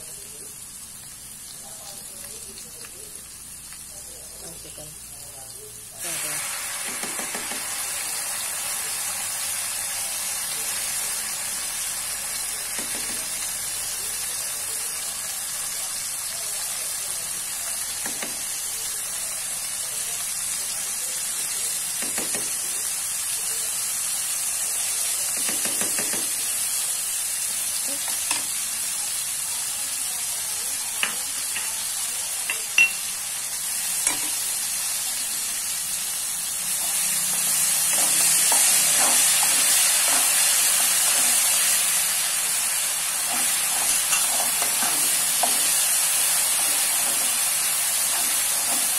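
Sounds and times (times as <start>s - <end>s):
hot oil sizzling in a wok: 0.0s - 48.9s.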